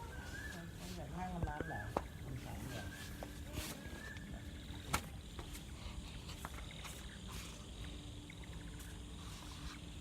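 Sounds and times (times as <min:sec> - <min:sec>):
low steady hum: 0:00.0 - 0:10.0
night insects chirping: 0:00.0 - 0:10.0.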